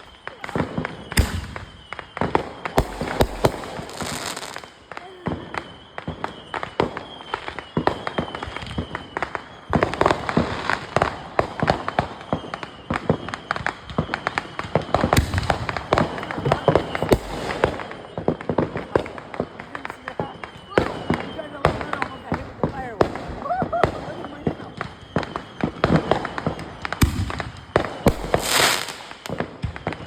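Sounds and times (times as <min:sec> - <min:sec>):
fireworks and firecrackers banging: 0:00.0 - 0:30.0.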